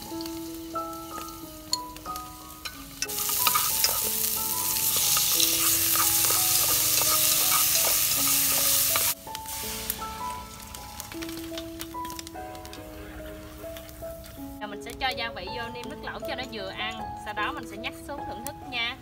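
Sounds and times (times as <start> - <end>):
food sizzling in hot oil: 0.0 - 18.8
background music: 0.0 - 19.0.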